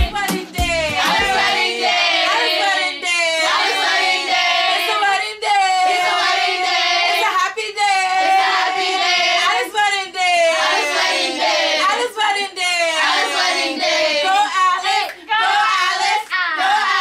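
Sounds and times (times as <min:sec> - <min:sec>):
women singing unaccompanied: 0:00.0 - 0:17.0.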